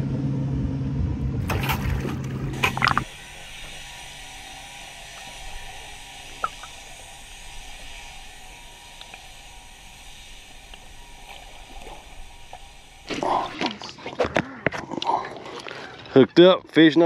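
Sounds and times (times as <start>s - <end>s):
water and breeze hiss: 1.4s - 17.0s.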